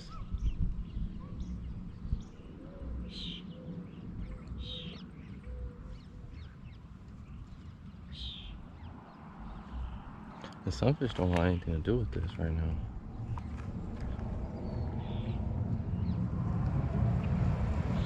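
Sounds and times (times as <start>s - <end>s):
birds calling: 0.0s - 16.4s
low outdoor rumble: 0.0s - 18.0s.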